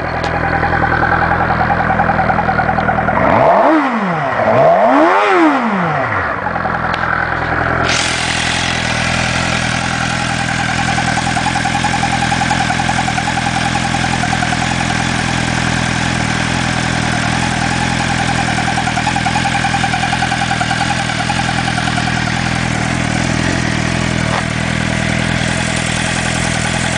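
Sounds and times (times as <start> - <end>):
motorcycle engine revving and idling: 0.0 - 26.9.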